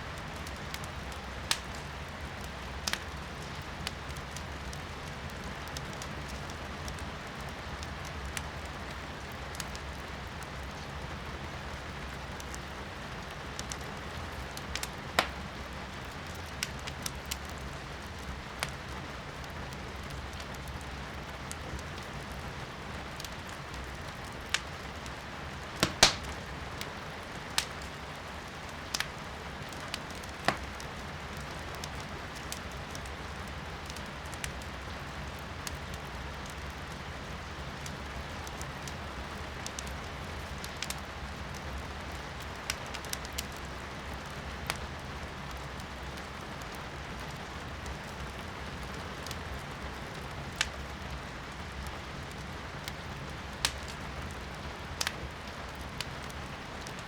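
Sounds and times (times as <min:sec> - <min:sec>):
firewood crackling and popping: 0:00.1 - 0:57.0.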